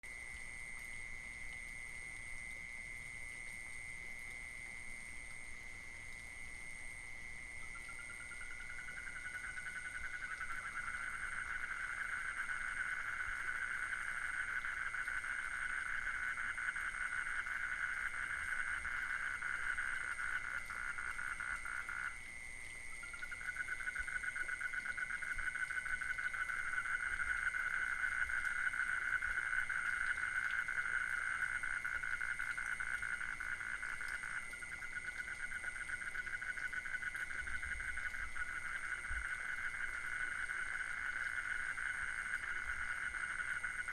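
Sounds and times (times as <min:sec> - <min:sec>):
frogs calling in a pulsed trill: 0:00.1 - 0:43.9.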